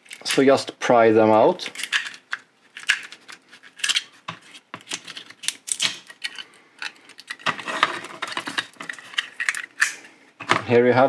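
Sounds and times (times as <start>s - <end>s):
plastic clicks and crackles: 1.6s - 10.6s.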